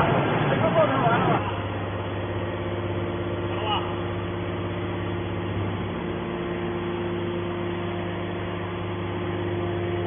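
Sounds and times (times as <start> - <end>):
hydraulic pump motor humming: 0.0 - 10.0.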